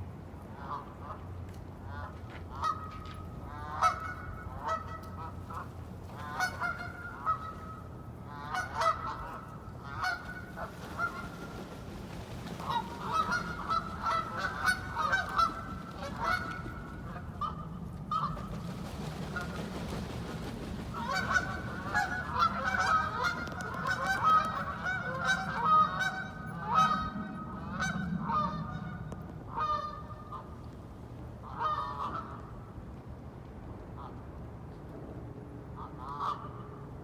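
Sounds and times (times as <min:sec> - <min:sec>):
waterfowl quacking: 0:01.9 - 0:30.6, 0:31.4 - 0:32.4, 0:35.8 - 0:36.6.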